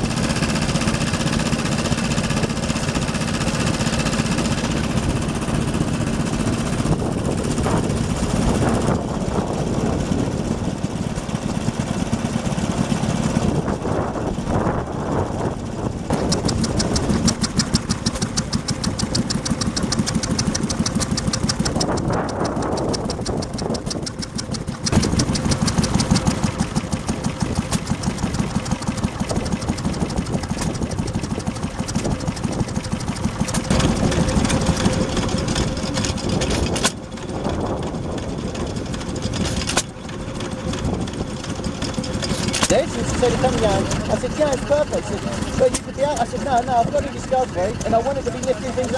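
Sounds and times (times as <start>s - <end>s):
stationary engines running: 0.0s - 48.9s.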